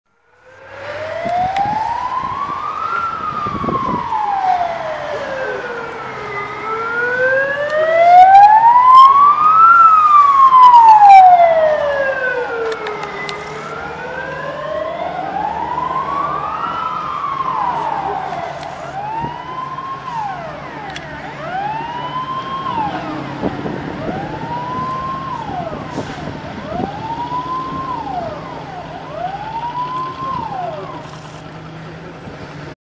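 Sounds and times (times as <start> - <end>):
fire truck siren wailing: 0.2 - 32.8.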